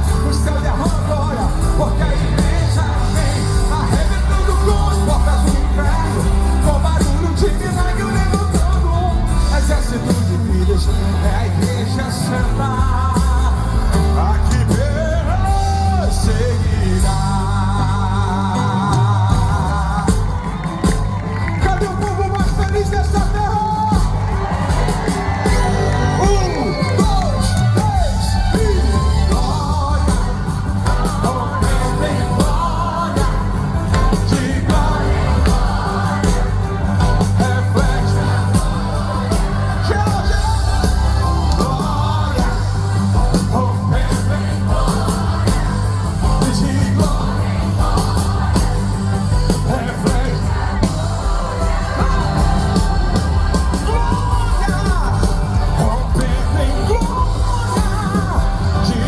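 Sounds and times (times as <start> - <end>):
gospel band playing: 0.0 - 59.0
person singing: 0.0 - 59.0.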